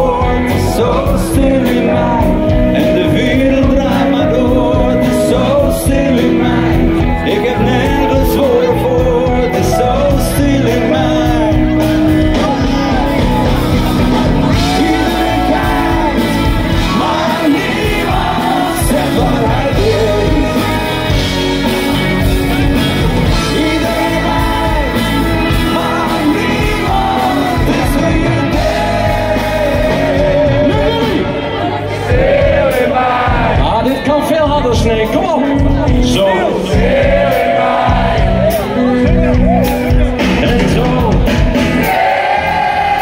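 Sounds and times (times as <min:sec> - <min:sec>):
person singing into a microphone: 0:00.0 - 0:21.3, 0:23.2 - 0:41.5
live rock band playing: 0:00.0 - 0:43.0.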